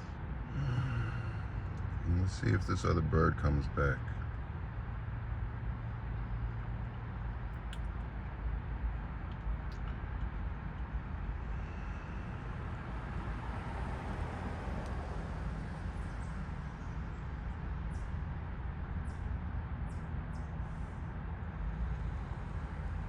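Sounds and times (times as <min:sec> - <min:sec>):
background traffic rumble: 0:00.0 - 0:23.0.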